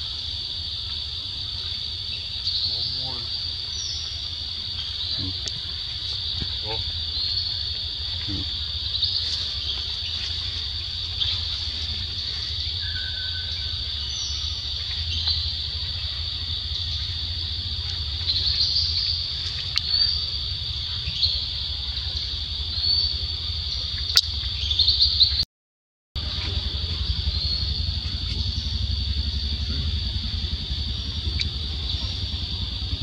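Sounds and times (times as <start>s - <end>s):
insects droning: 0.0s - 25.4s, 26.2s - 33.0s
low rumble: 0.0s - 25.4s, 26.2s - 33.0s.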